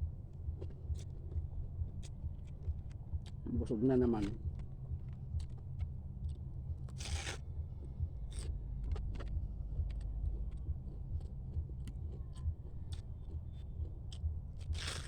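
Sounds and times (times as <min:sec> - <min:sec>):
steady low hum: 0:00.0 - 0:15.0
chewing and picking at shell: 0:00.3 - 0:15.0.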